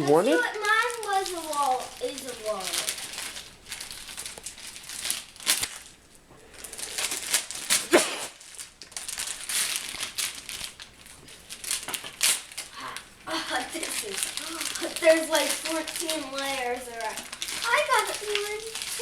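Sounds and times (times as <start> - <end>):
wrapping paper tearing and crumpling: 0.4 - 19.0.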